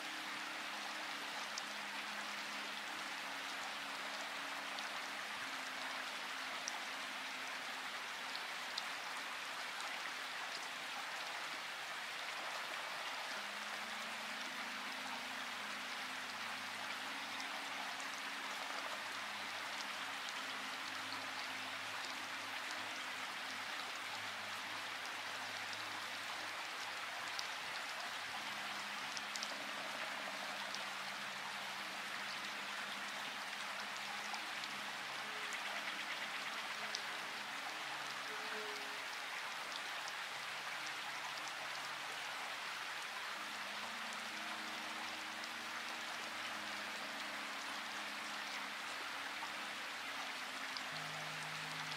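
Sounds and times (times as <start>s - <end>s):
steady rainfall: 0.0s - 51.9s.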